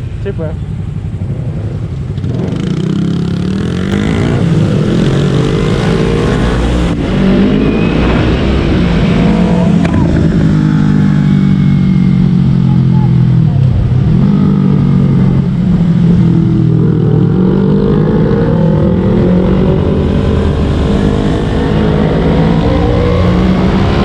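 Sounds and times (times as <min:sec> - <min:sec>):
motorcycle engine accelerating: 0:00.6 - 0:24.0.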